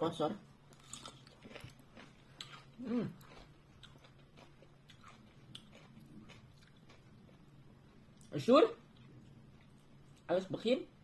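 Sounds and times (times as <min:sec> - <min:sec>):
chewing pickle: 0:00.7 - 0:10.3.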